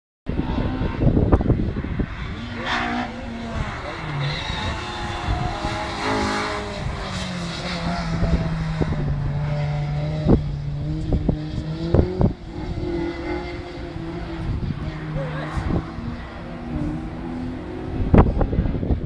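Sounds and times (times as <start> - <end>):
rally car engine revving: 0.3 - 19.0
wind rumble on microphone: 0.3 - 19.0.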